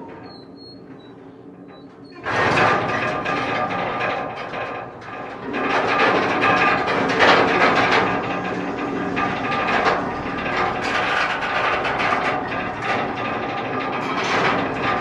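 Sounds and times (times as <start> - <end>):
freight train rattling and clanking: 0.0 - 15.0.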